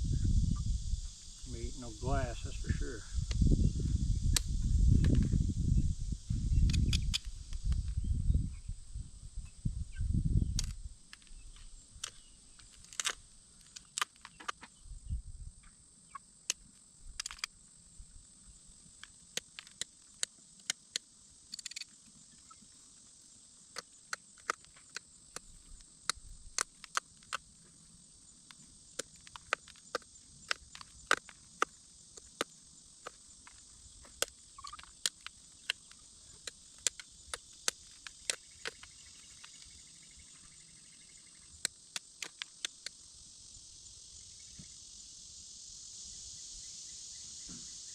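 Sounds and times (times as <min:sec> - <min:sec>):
insect drone: 0:00.0 - 0:47.9.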